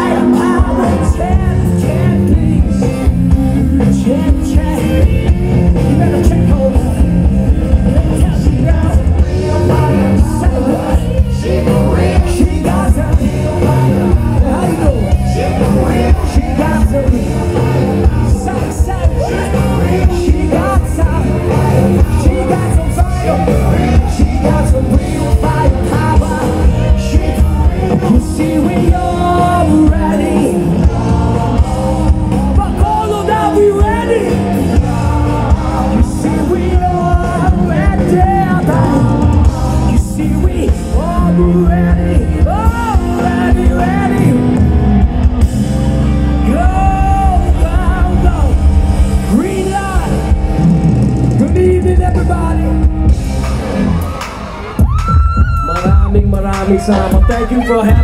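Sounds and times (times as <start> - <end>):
man singing: 0.0 - 44.9, 46.3 - 53.2, 54.8 - 58.0
live rock band playing: 0.0 - 58.0.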